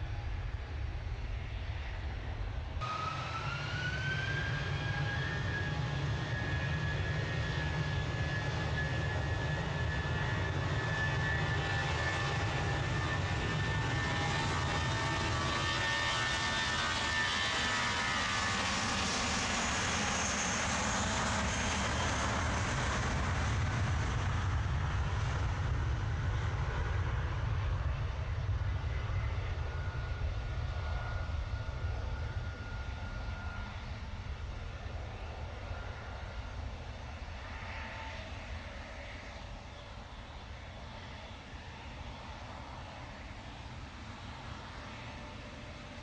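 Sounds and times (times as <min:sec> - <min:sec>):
airliner engines rumbling: 0:00.0 - 0:46.0
high engine whine: 0:00.0 - 0:46.0.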